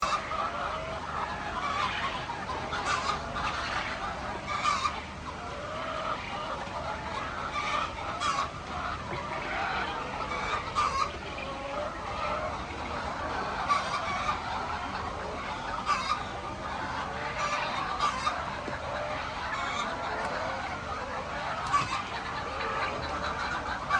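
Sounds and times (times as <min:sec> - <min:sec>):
hens clucking: 0:00.0 - 0:23.9.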